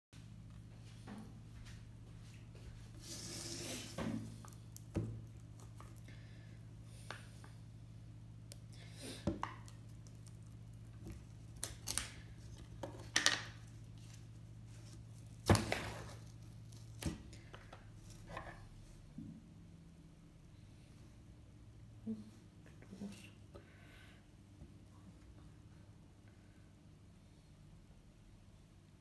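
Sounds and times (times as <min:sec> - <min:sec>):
low steady hum: 0:00.2 - 0:29.0.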